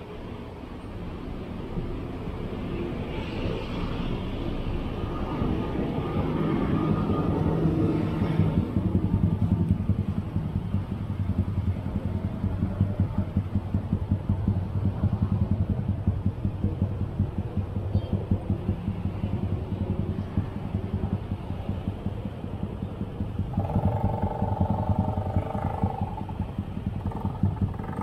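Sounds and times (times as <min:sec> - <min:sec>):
engines idling: 0:00.0 - 0:28.0
fast uneven low pulsing: 0:04.3 - 0:28.0.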